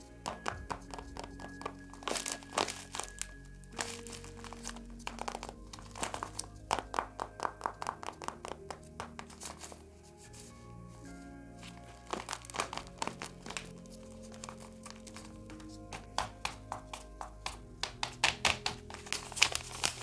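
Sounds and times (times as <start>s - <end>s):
background music: 0.0s - 20.0s
paper crinkling and rustling: 0.0s - 20.0s.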